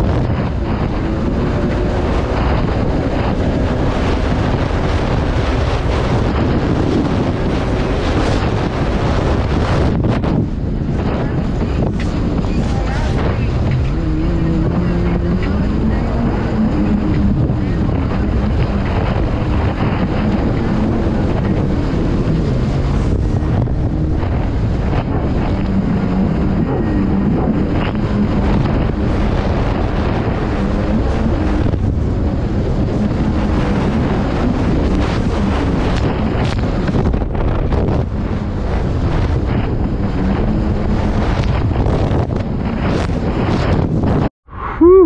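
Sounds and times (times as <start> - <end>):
hull slapping choppy water: 0.0 - 44.3
jet ski engine drone: 0.0 - 45.0
wind buffeting microphone: 0.0 - 45.0.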